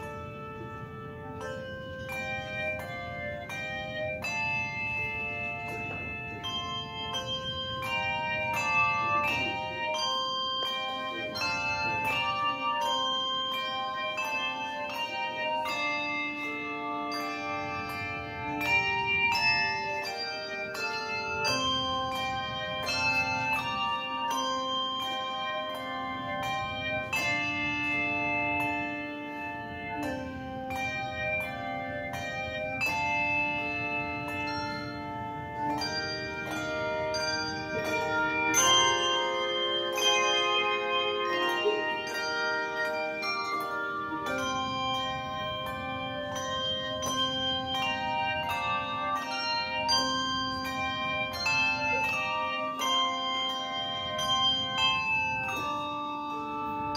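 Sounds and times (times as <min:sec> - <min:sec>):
handbell choir playing: 0:00.0 - 0:56.9.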